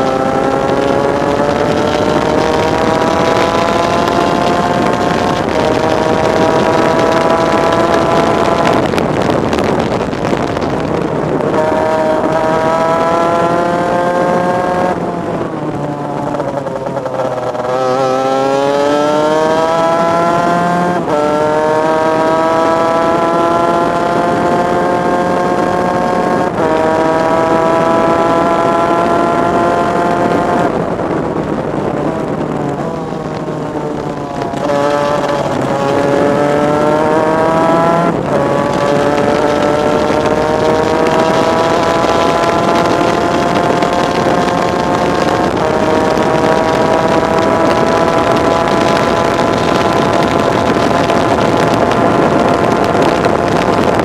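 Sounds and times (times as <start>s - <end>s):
kart engine at racing speed: 0.0s - 54.0s.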